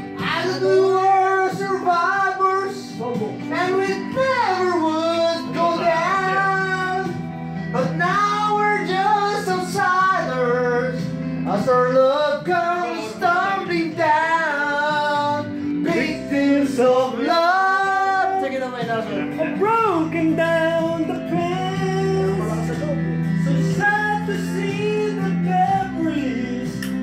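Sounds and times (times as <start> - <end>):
backing track chords: 0.0 - 27.0
man singing karaoke: 0.0 - 27.0.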